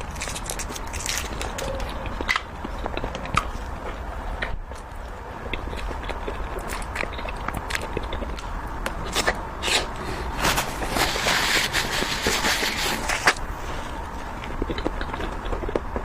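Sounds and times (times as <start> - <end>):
crunchy chewing of sweets: 0.0 - 16.0.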